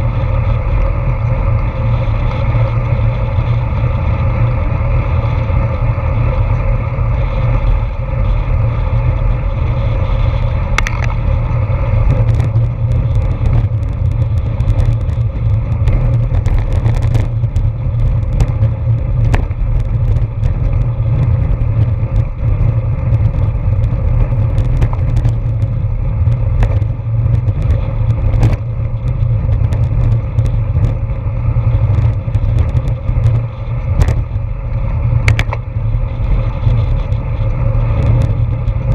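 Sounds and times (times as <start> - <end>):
bicycle clicks and rattles: 0.0 - 38.9
tyre and road noise: 0.0 - 38.9
wind buffeting microphone: 0.0 - 38.9.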